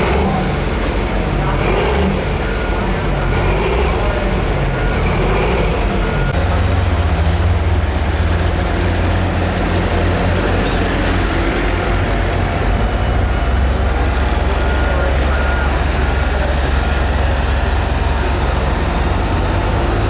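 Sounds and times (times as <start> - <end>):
diesel tractor engine rumbling: 0.0 - 20.0.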